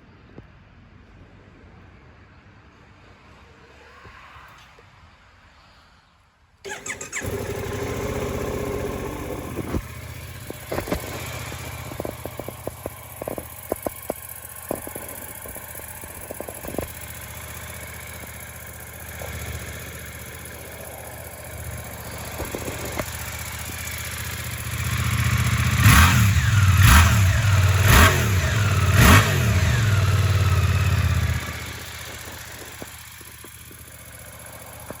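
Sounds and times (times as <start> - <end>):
motorcycle engine starting: 6.6 - 35.0
engine revving blips: 6.7 - 35.0
motorcycle engine idling: 6.7 - 35.0.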